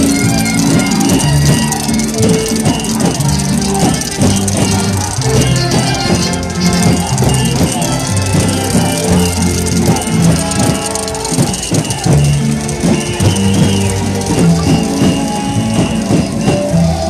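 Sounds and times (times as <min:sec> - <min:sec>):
music over outdoor loudspeakers: 0:00.0 - 0:17.0.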